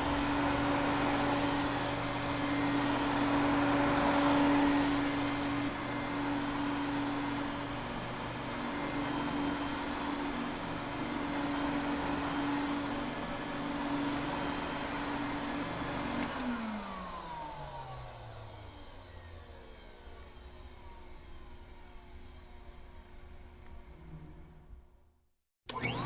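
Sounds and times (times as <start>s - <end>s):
vacuum motor winding down: 0.0s - 23.0s, 25.7s - 26.0s
vacuum cleaner running: 0.0s - 24.8s, 25.7s - 26.0s.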